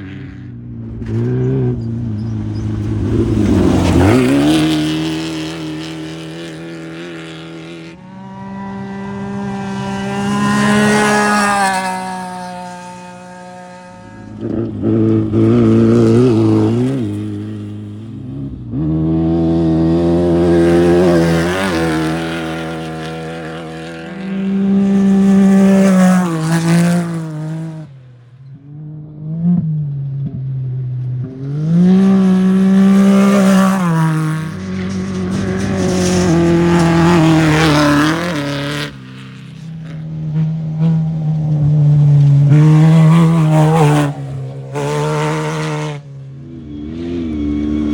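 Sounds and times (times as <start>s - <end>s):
race vehicle engines revving past: 0.0s - 47.9s.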